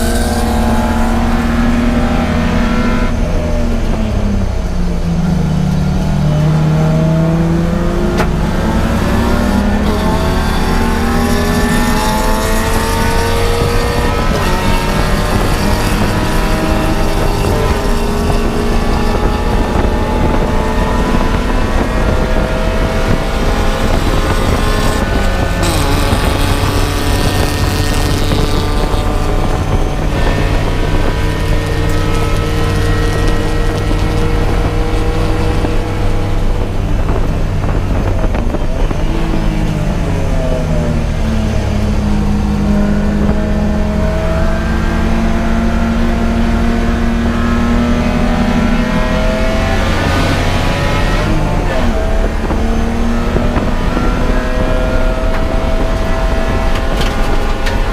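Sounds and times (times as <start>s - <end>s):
race car engine at speed: 0.0s - 57.9s.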